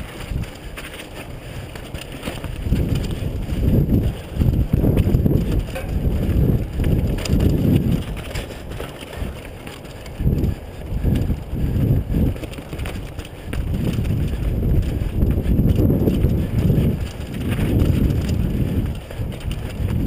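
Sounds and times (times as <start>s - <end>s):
bike rattling over bumps: 0.0s - 20.0s
tyres rolling over stones: 0.0s - 20.0s
wind buffeting microphone: 0.0s - 20.0s.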